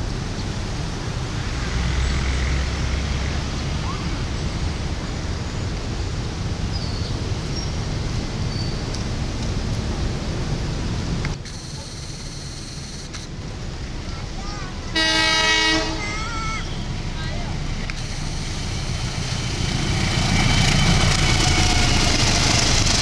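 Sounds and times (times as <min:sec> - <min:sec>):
diesel locomotive engine rumble: 0:00.0 - 0:23.0
train rushing noise: 0:00.0 - 0:23.0.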